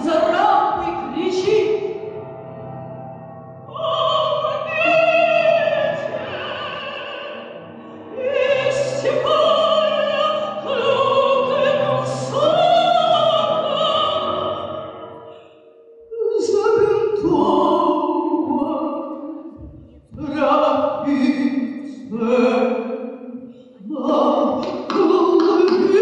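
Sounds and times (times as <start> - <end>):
operatic singing with vibrato: 0.0 - 2.0, 3.6 - 26.0.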